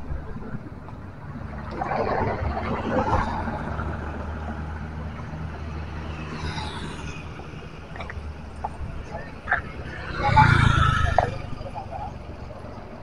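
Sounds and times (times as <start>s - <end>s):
low engine hum: 0.0s - 13.0s
vehicle passing close by: 1.4s - 13.0s.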